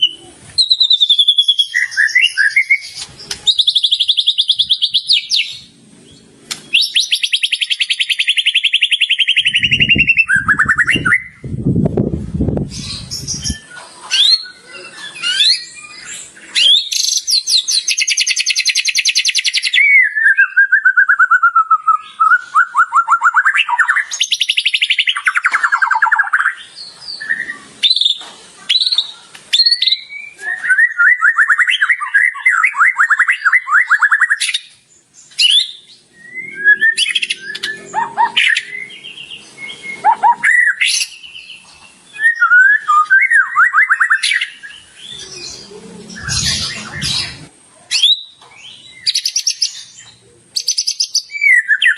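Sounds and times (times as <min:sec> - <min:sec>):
songbird singing trills and whistles: 0:00.0 - 0:11.8, 0:12.6 - 0:51.9.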